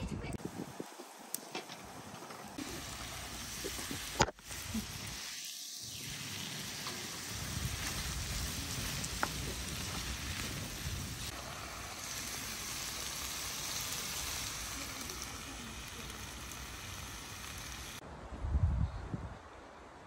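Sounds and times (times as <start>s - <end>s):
vegetables sizzling in a frying pan: 0.5s - 18.0s.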